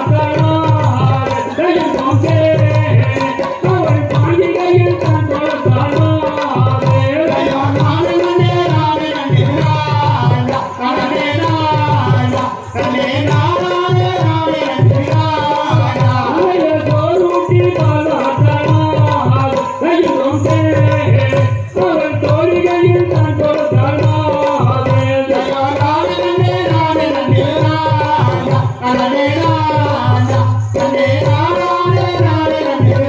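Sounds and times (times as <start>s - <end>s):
person singing folk song: 0.0s - 33.0s
repeating drum beat: 0.0s - 33.0s.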